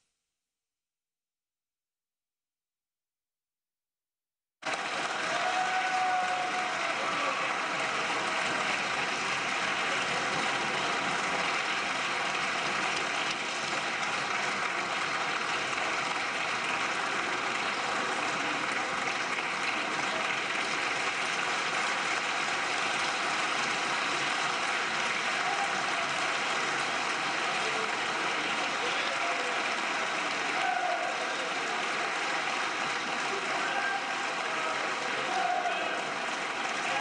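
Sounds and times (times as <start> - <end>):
dense applause: 4.6 - 37.0.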